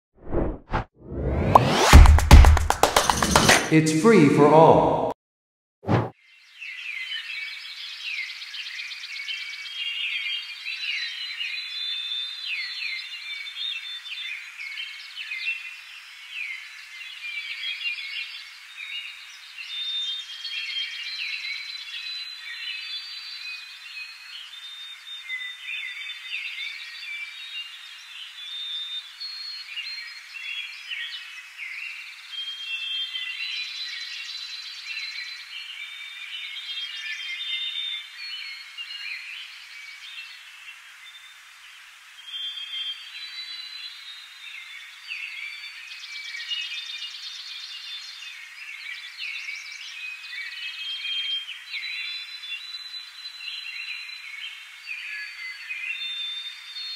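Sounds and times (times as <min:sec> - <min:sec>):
many small birds singing: 0:06.2 - 0:56.9.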